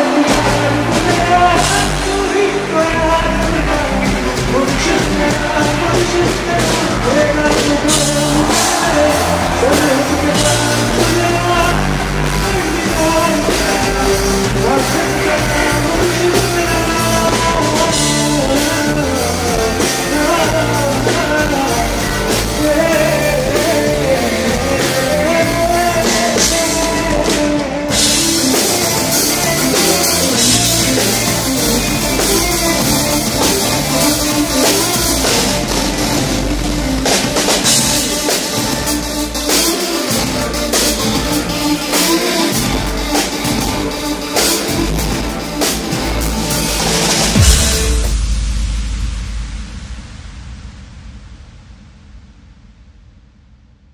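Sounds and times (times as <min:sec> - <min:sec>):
man singing: 0:00.0 - 0:45.6
live pop-rock band: 0:00.0 - 0:49.4.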